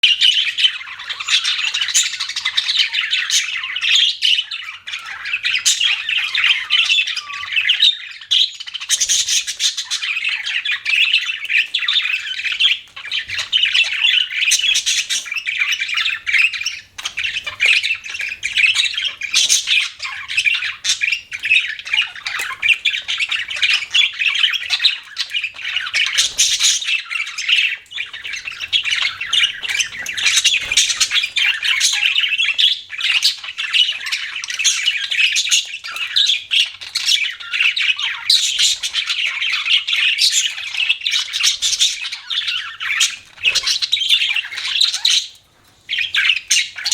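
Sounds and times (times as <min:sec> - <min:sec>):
budgerigars chirping: 0:00.0 - 0:46.9.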